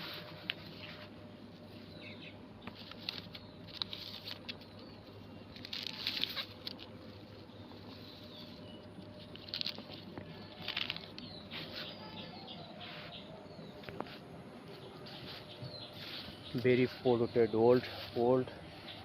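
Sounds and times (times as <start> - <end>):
plastic and dry weeds rustling: 0.0 - 19.0.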